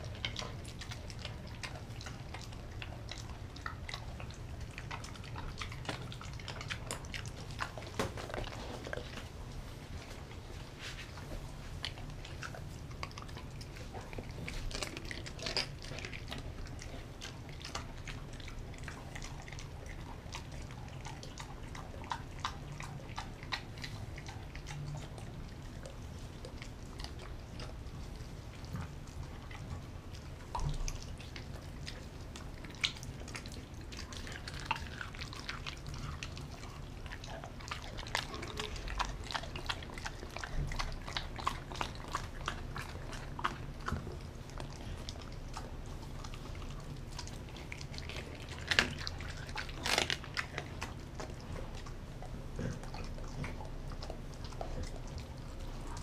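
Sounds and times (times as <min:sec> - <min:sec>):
dog chewing raw meat: 0:00.0 - 0:56.0.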